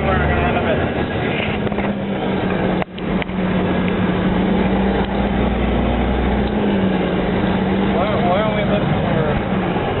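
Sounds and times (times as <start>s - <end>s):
vehicle engine drone: 0.0s - 10.0s.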